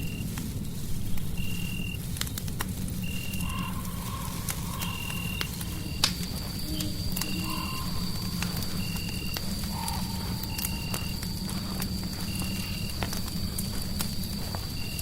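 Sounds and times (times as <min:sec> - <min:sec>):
fireplace crackling and popping: 0:00.0 - 0:15.0
steady low rumble: 0:00.0 - 0:15.0.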